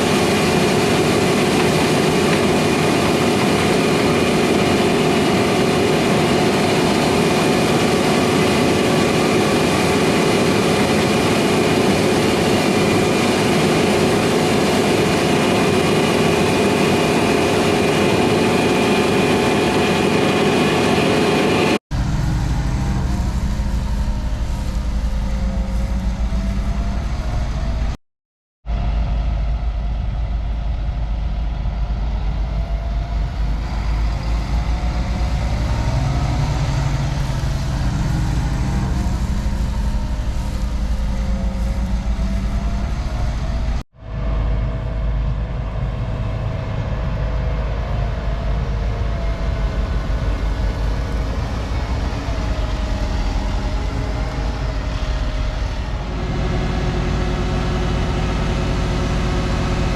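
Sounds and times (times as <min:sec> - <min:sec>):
harvest machinery engine drone: 0:00.0 - 0:28.0, 0:28.7 - 0:59.9
low heavy engine rumble: 0:00.0 - 0:28.0, 0:28.7 - 0:59.9
steady machine whine: 0:00.0 - 0:28.0, 0:28.7 - 0:59.9.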